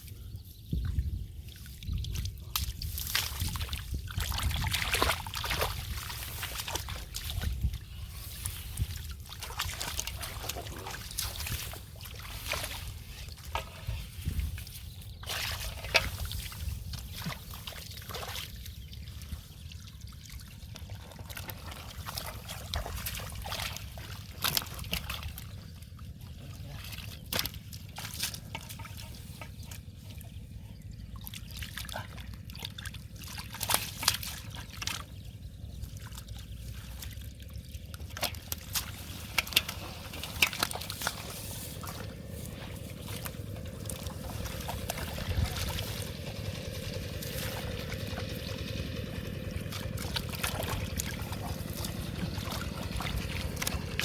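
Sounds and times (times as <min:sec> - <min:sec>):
steady low rumble: 0:00.0 - 0:33.6, 0:34.3 - 0:54.0
shallow water splashing: 0:01.4 - 0:54.0.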